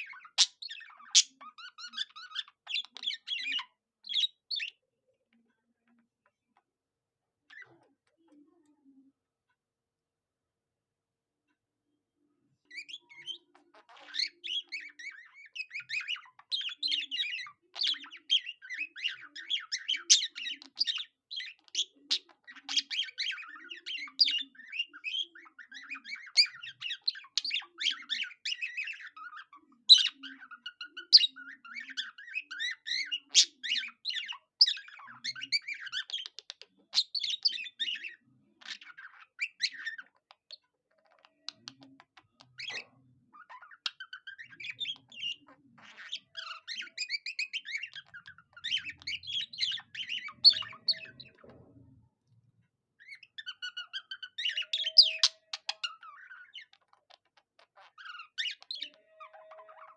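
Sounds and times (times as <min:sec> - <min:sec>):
budgerigar warbling chatter: 0:00.0 - 0:04.8, 0:12.7 - 0:51.6, 0:53.0 - 0:59.9.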